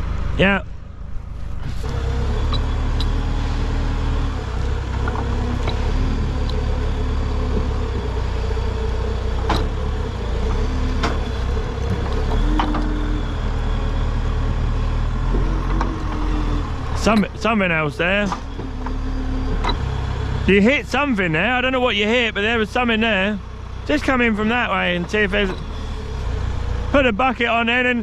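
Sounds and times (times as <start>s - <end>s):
heavy diesel machine running: 0.0s - 28.0s.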